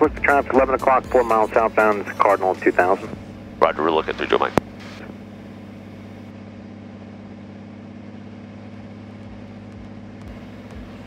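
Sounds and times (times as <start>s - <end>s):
piston aircraft engine drone: 0.0s - 11.0s.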